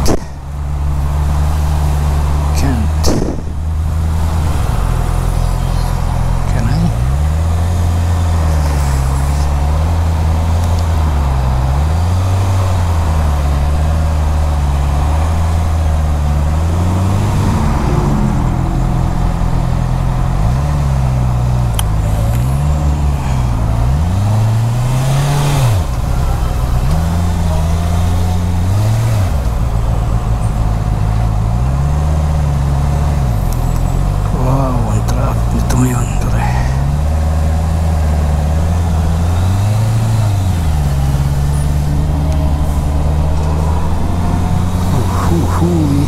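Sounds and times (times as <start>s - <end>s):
motorcycle engine revving: 0.0s - 34.3s, 36.8s - 46.0s.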